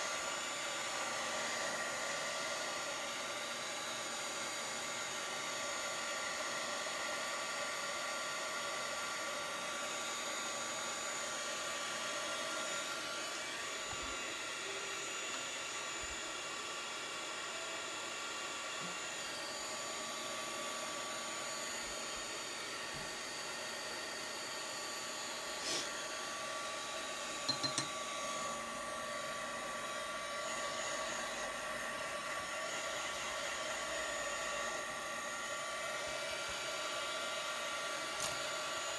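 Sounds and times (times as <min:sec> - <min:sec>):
blow dryer running: 0:00.0 - 0:38.9.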